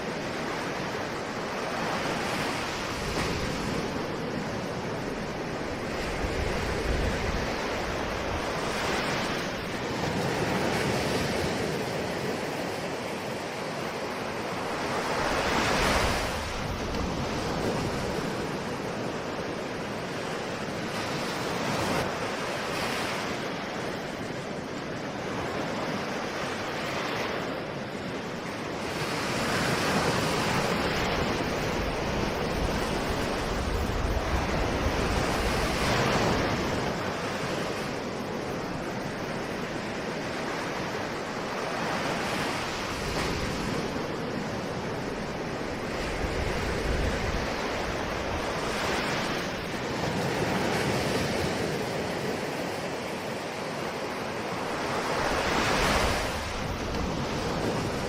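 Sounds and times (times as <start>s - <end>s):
ocean waves breaking: 0.0s - 58.0s
wind rumble on microphone: 0.0s - 58.0s.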